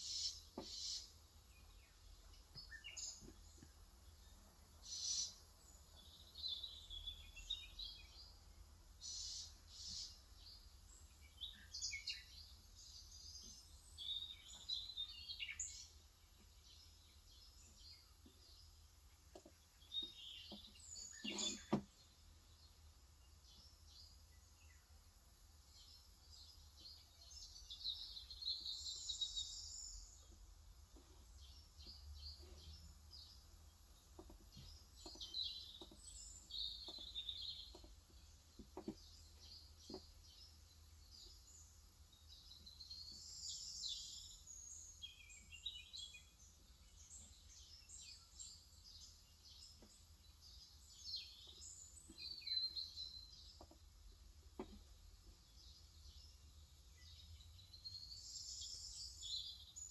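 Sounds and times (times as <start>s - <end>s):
low background hiss: 0.0s - 21.2s, 21.9s - 59.9s
small birds chirping: 0.0s - 59.9s.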